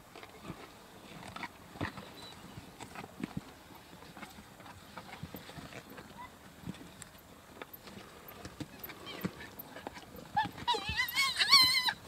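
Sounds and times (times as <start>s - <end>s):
hyenas crunching bone: 0.0s - 11.6s.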